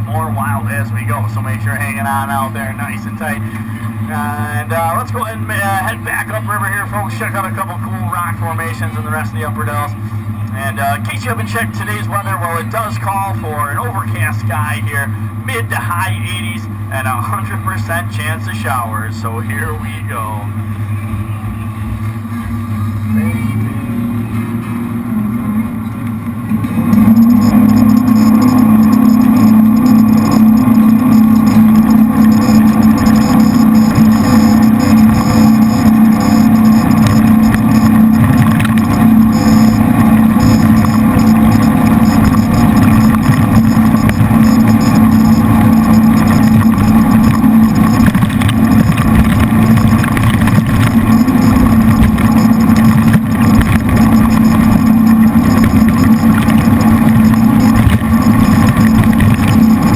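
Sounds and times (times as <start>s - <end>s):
boat engines droning: 0.0s - 59.9s.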